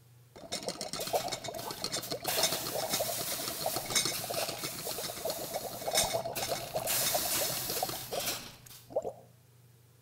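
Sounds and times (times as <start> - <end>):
water bubbling and splashing on metal: 0.4 - 9.2.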